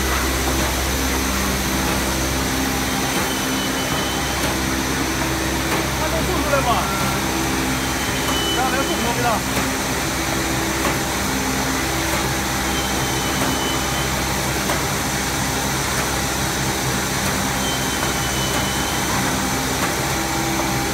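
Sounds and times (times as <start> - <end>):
production line machine drone: 0.0 - 20.9.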